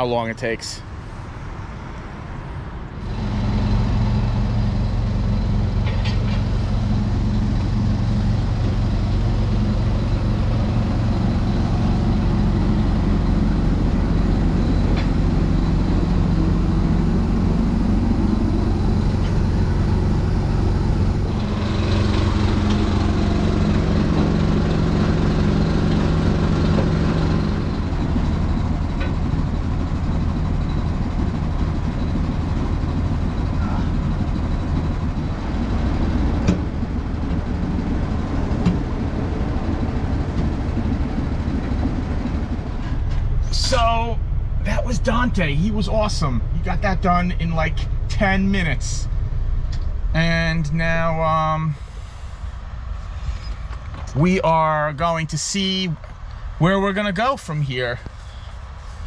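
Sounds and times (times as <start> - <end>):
truck diesel engine running: 3.0 - 59.0.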